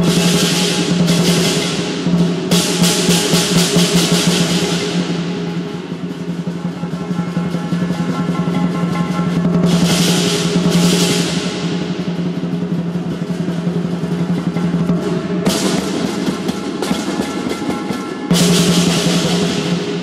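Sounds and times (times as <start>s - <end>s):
cymbals crashing: 0.0s - 20.0s
large drum rapid roll: 0.0s - 20.0s.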